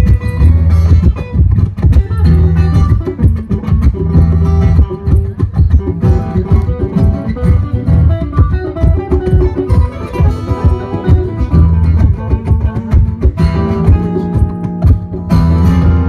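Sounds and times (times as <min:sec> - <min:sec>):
guitar plucking quick notes: 0:00.0 - 0:16.0
steady bass line: 0:00.0 - 0:16.0.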